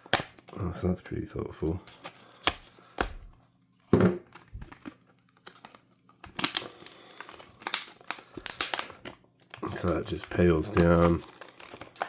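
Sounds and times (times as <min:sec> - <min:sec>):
plastic packaging tearing: 0:00.0 - 0:01.0, 0:01.6 - 0:03.3, 0:04.2 - 0:12.0.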